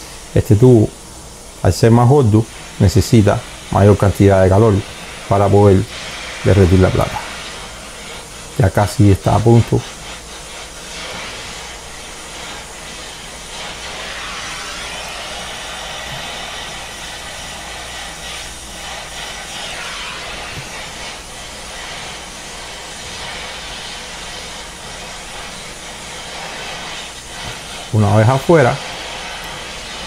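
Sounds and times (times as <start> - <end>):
torch flame hissing: 0.0 - 30.0.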